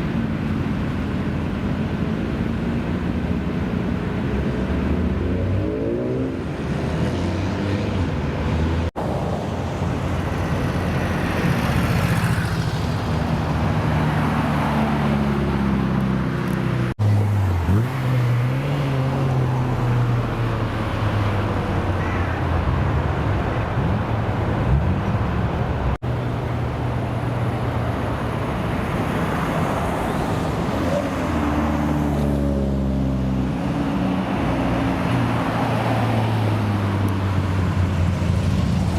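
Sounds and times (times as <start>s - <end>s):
car engines revving: 0.3s - 38.9s.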